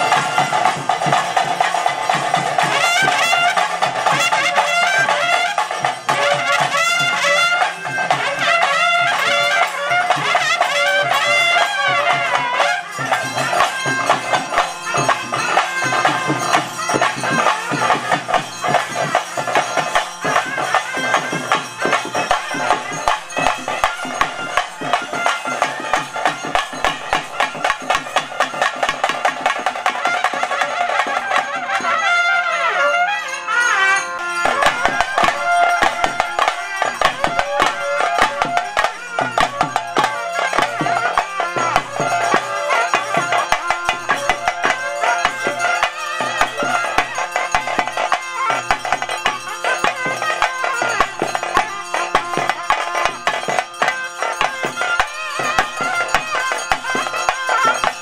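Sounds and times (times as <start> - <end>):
fast continuous drumming: 0.0 - 58.0
piercing wind instrument melody: 0.0 - 58.0.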